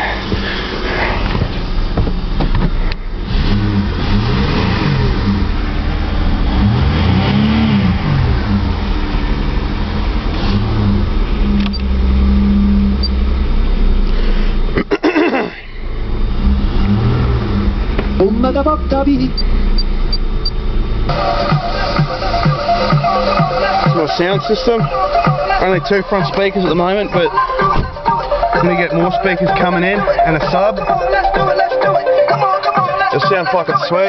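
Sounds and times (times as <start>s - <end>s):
car engine revving: 0.0s - 14.8s, 15.7s - 32.8s.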